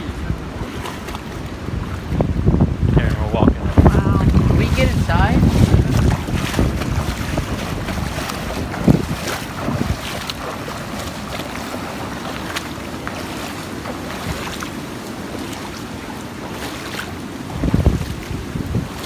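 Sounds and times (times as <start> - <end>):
footsteps splashing through water: 0.0 - 2.4, 3.0 - 19.0
wind buffeting microphone: 0.0 - 19.0.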